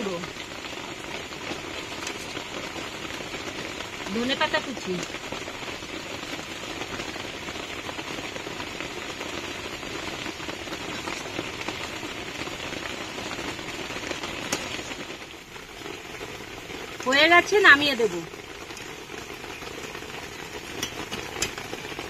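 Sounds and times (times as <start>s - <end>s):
curry bubbling in a pan: 0.0s - 22.0s.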